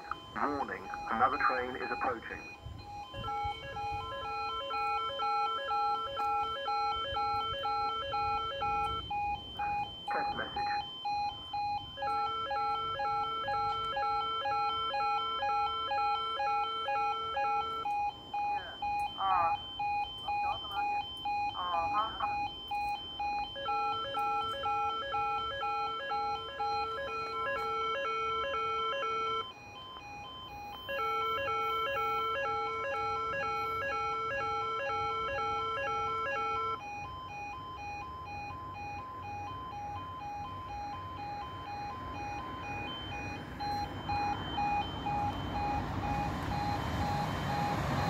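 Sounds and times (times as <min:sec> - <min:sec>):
two-tone electronic alarm: 0:00.0 - 0:48.0.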